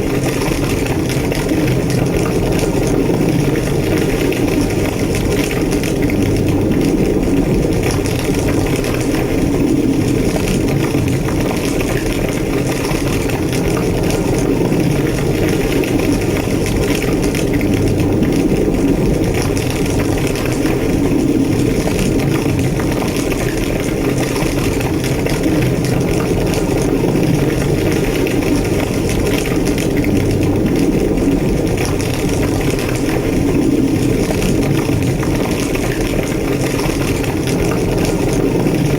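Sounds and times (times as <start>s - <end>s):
fire crackling: 0.0s - 38.9s
flames roaring: 0.0s - 38.9s.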